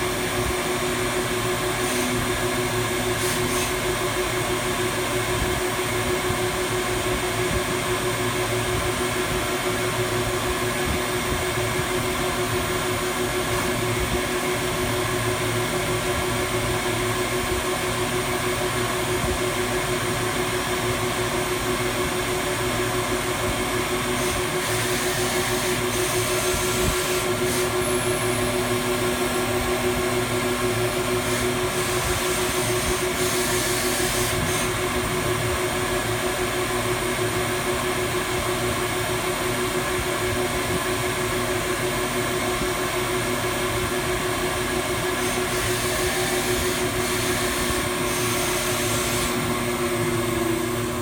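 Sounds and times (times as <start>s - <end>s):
grinding machine humming: 0.0s - 51.0s.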